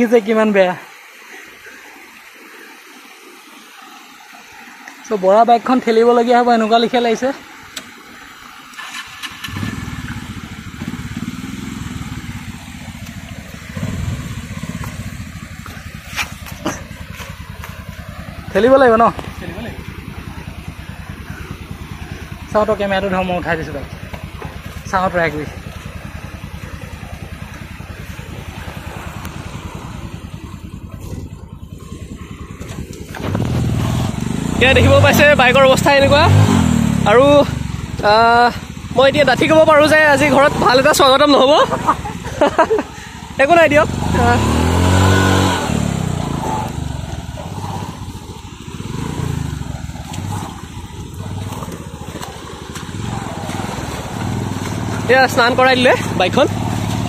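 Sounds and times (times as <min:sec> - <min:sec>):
motorcycle engine running: 0:06.0 - 0:57.0.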